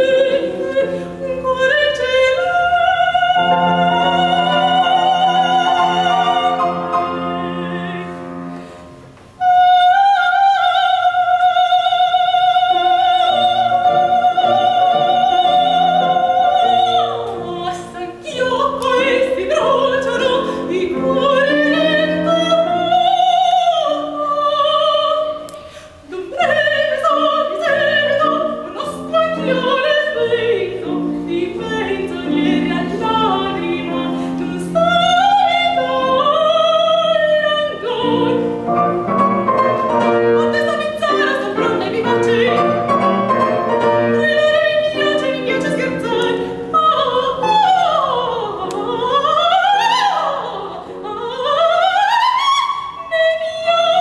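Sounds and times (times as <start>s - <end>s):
soprano singing opera: 0.0s - 8.6s, 9.3s - 54.0s
grand piano: 0.0s - 54.0s.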